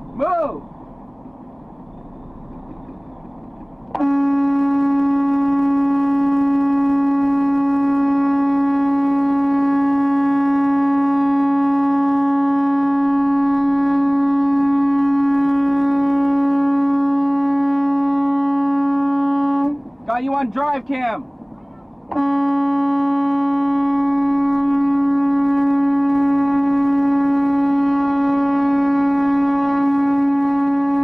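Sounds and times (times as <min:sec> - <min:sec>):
truck horn long blast: 0:03.9 - 0:20.1, 0:21.6 - 0:31.0.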